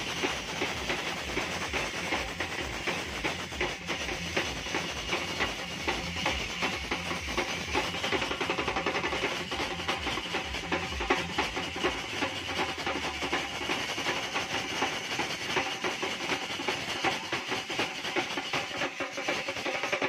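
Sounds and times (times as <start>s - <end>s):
drummers beating large drums: 0.0s - 20.0s.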